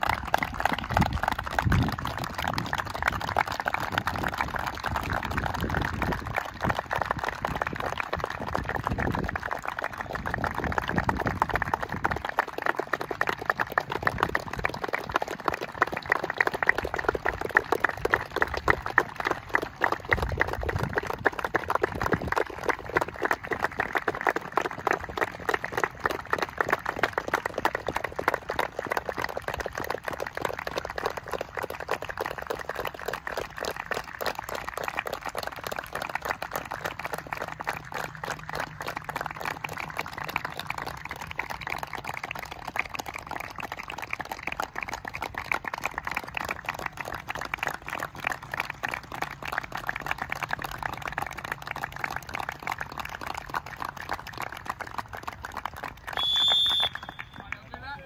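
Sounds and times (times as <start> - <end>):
group hand-clapping applause: 0.0 - 58.0.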